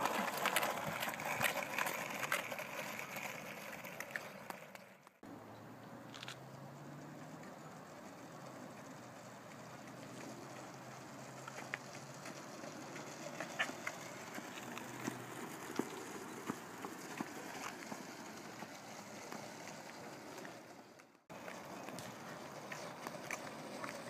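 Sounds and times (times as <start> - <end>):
footsteps on road: 0.0 - 5.2, 5.9 - 7.6, 8.8 - 24.0
skateboard wheels rolling on asphalt: 0.0 - 24.0.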